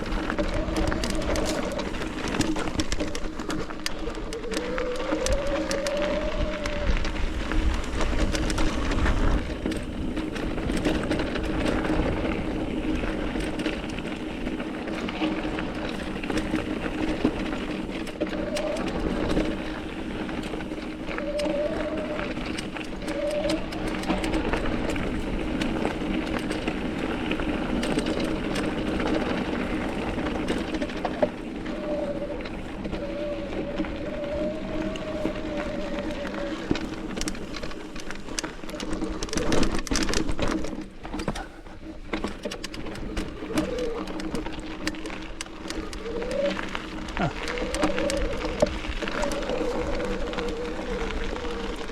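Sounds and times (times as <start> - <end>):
wind on microphone: 0.0 - 14.2, 14.9 - 51.9
bike rattling: 0.0 - 51.9
tyres crunching on gravel: 0.0 - 51.9.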